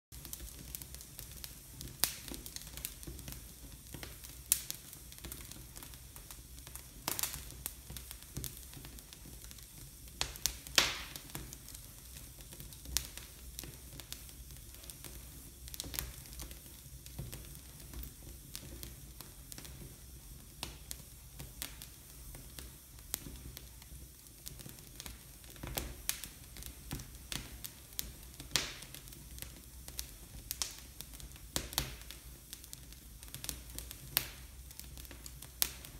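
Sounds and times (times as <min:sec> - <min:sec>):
wood fire crackling and popping: 0:00.1 - 0:35.9.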